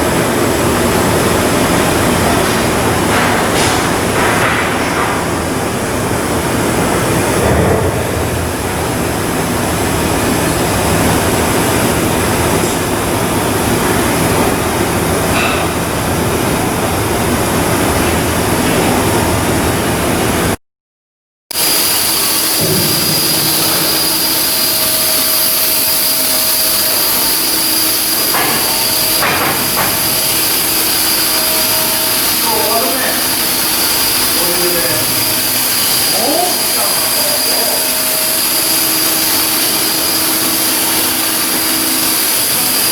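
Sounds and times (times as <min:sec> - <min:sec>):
loud machinery noise: 0:00.0 - 0:20.6, 0:21.5 - 0:42.9
machinery hum with high hiss: 0:00.0 - 0:20.6, 0:21.5 - 0:42.9.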